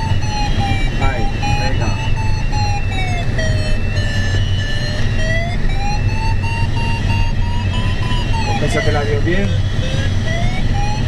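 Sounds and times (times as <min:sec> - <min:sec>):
airflow rushing in cockpit: 0:00.0 - 0:11.0
variometer electronic tone: 0:00.0 - 0:11.0.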